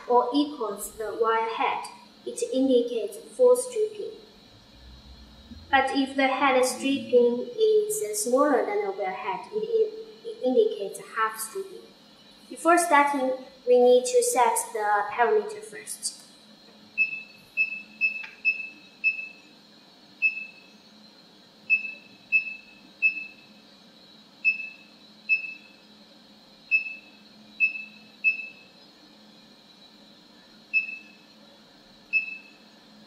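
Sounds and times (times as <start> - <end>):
faint steady high hum: 0.0 - 33.0.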